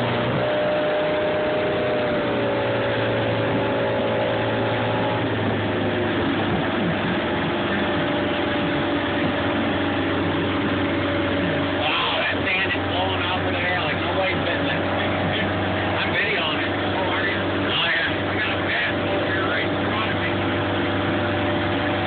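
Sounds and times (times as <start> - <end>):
churning water: 0.0 - 22.0
motorboat engine running: 0.0 - 22.0.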